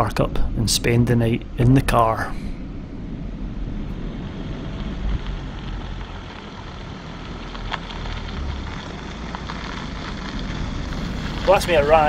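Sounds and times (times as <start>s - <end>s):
car engine rumble: 0.0s - 12.0s
crackling tyre noise: 0.0s - 12.0s.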